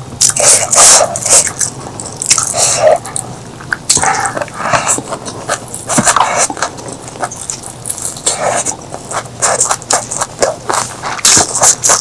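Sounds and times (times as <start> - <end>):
chewing and biting: 0.2 - 12.0.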